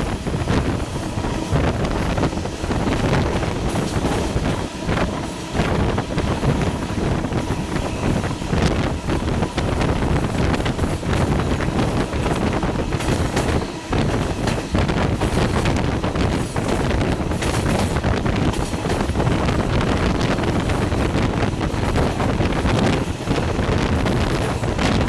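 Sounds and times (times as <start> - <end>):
train rumbling: 0.0 - 25.0
wheels knocking and rattling: 0.0 - 25.0
wind buffeting microphone: 0.0 - 25.0.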